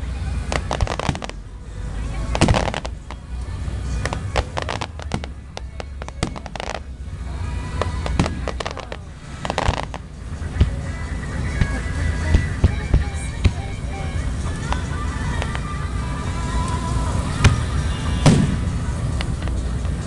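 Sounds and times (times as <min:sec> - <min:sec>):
fireworks bangs and crackles: 0:00.0 - 0:15.7, 0:17.2 - 0:20.0
low rumble: 0:00.0 - 0:20.0
music playing: 0:00.0 - 0:20.0.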